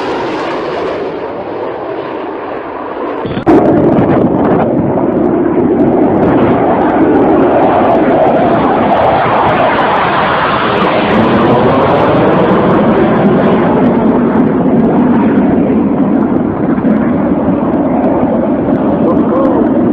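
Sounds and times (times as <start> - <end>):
fighter jet engine roar: 0.0 - 19.9.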